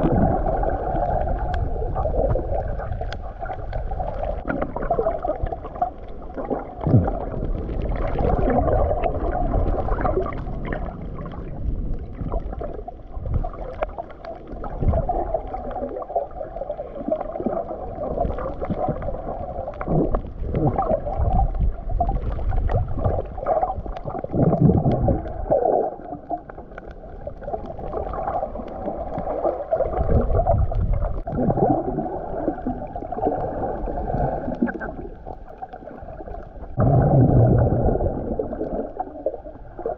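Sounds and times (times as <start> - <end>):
muffled underwater swishing: 0.0 - 39.9.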